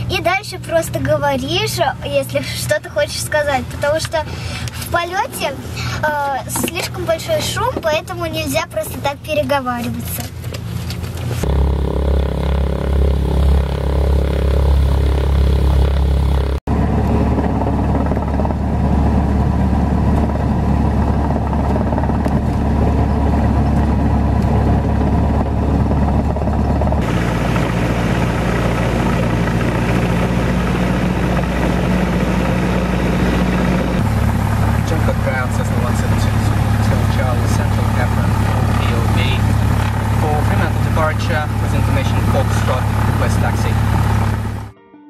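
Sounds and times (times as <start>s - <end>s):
light aircraft engine drone: 0.0s - 44.7s.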